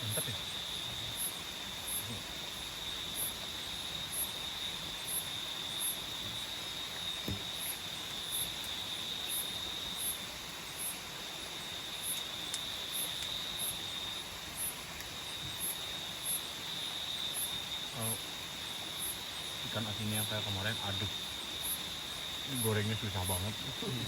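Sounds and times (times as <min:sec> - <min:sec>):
high-pitched insect chirp: 0:00.0 - 0:24.0
insects trilling: 0:00.0 - 0:24.0.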